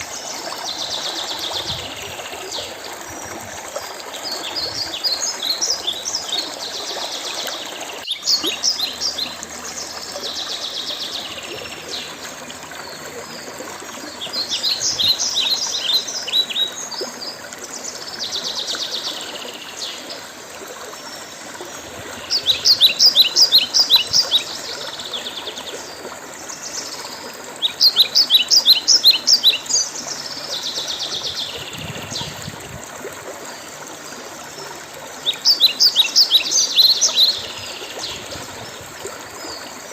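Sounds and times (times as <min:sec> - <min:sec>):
songbirds singing: 0:00.0 - 0:20.4, 0:21.0 - 0:32.8, 0:33.4 - 0:39.9.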